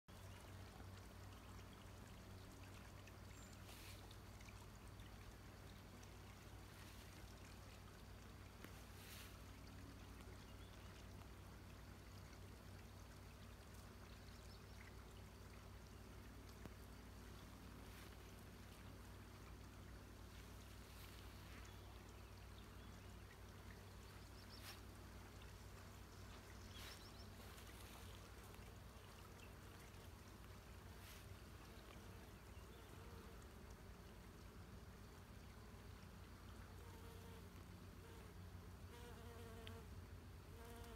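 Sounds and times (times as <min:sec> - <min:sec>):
faint outdoor hiss: 0:00.1 - 0:40.9
low steady hum: 0:00.1 - 0:40.9.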